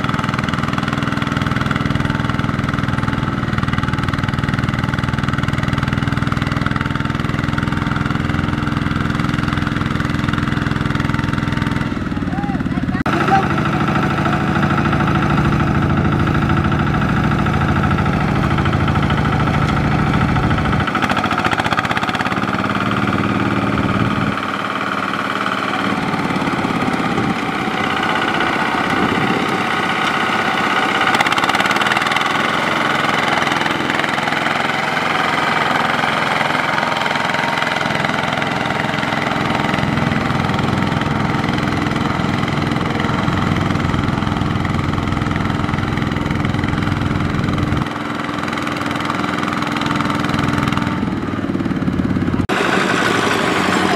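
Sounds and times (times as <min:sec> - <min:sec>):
diesel tiller engine running: 0:00.0 - 0:53.9.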